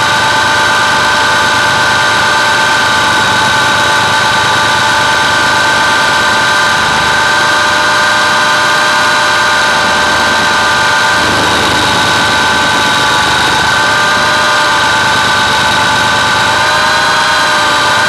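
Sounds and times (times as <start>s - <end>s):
helicopter motor and rotor whine: 0.0s - 18.0s
rushing noise: 0.0s - 18.0s.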